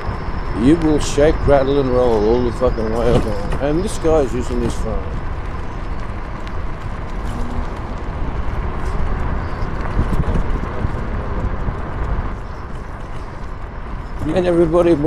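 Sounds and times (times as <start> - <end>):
electric scooter rolling on concrete: 0.0 - 15.0
wheels knocking and rattling: 0.0 - 15.0.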